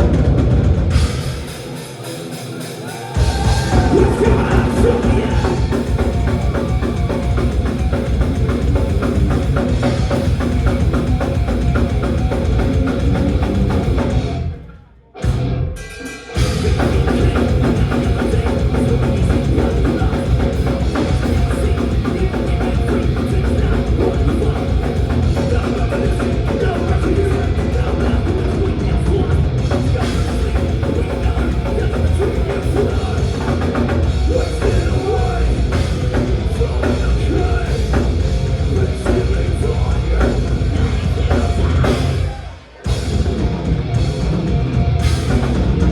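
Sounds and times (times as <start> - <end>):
pounding bass drum: 0.0 - 1.7, 3.2 - 14.6, 16.4 - 45.9
thrash metal band playing: 0.0 - 45.9.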